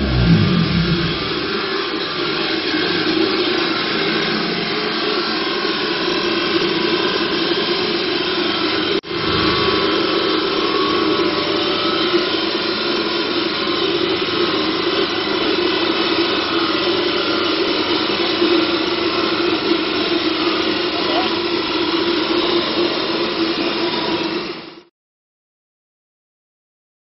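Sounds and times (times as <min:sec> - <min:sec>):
loud blowing machine roar: 0:00.0 - 0:24.9.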